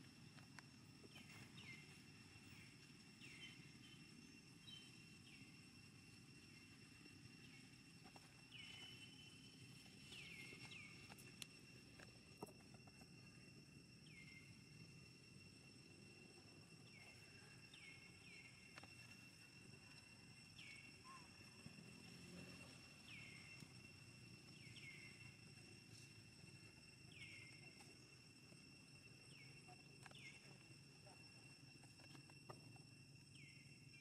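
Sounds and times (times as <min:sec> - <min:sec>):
high insect drone: 0:00.0 - 0:34.0.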